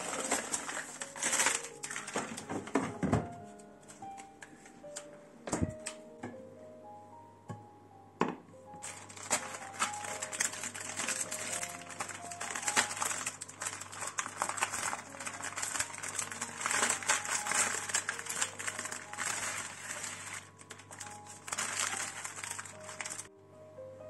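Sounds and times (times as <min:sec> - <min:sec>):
foil paper package crinkling: 0:00.0 - 0:05.1, 0:08.8 - 0:23.3
soft piano music: 0:00.0 - 0:24.0.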